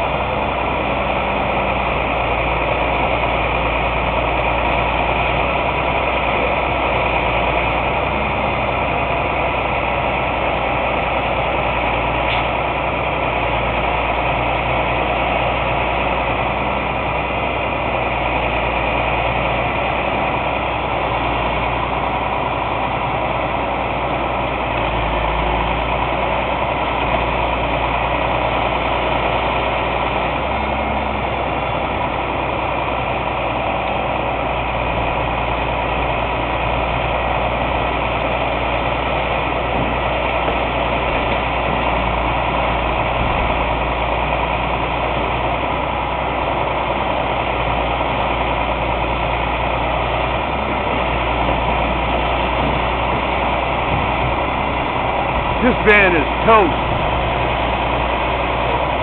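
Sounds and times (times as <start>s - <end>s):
heavy truck engine running: 0.0s - 59.0s.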